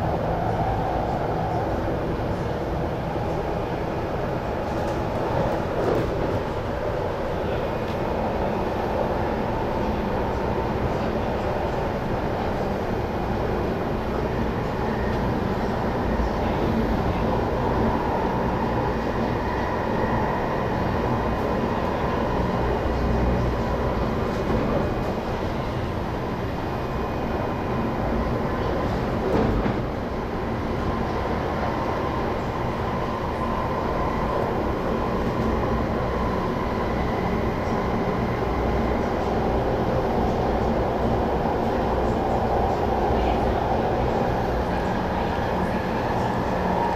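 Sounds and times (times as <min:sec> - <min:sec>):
train wheels rumbling: 0:00.0 - 0:46.9.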